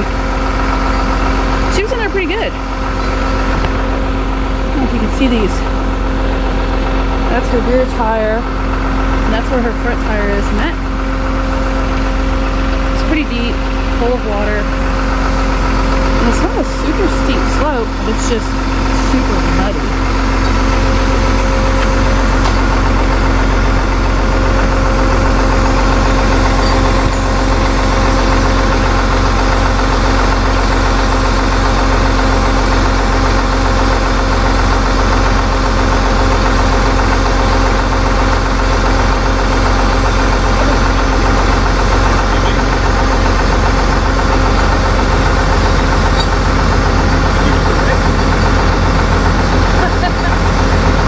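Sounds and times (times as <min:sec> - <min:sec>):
tow truck engine idling: 0:00.0 - 0:51.0.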